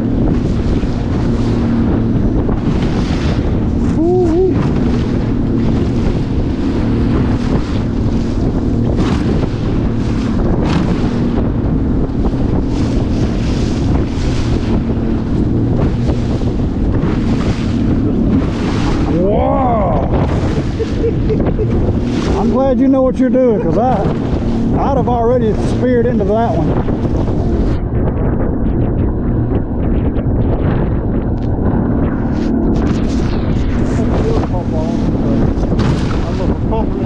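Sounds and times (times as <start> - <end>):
boat engine running: 0.0 - 37.0
water rushing against hull: 0.0 - 37.0
wind buffeting microphone: 0.0 - 37.0.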